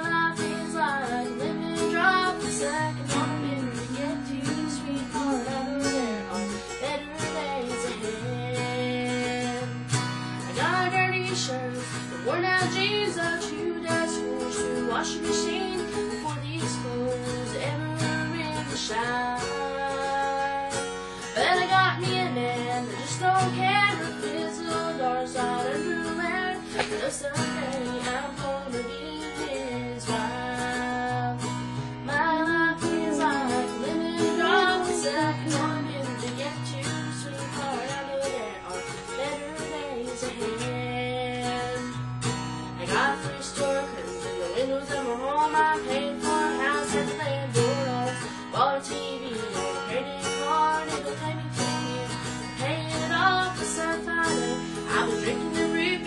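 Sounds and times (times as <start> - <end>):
acoustic guitar strumming: 0.0 - 56.0
woman singing country song: 0.0 - 56.0.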